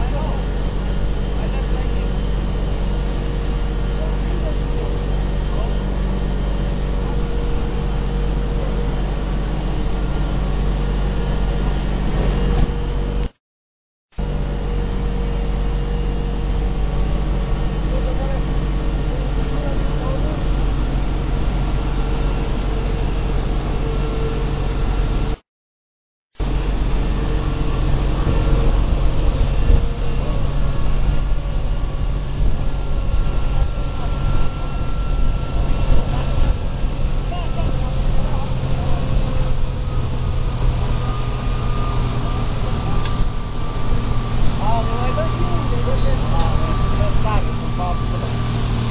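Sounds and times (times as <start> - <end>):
motorboat engine running: 0.0 - 13.4, 14.1 - 25.4, 26.4 - 48.9.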